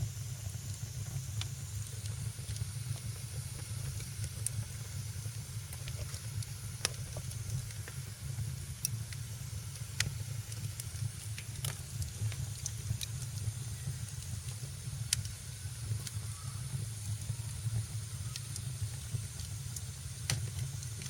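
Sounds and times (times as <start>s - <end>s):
fire low rumble: 0.0s - 21.0s
wood fire crackling: 0.0s - 21.0s.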